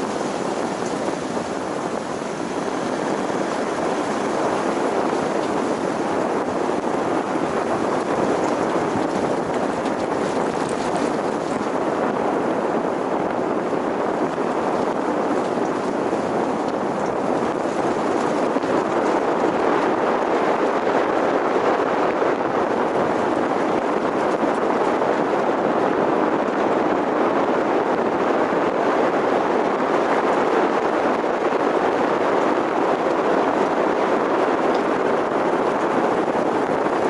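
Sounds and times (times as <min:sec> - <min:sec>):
tyre and road noise: 0:00.0 - 0:37.0
wind: 0:00.0 - 0:37.0.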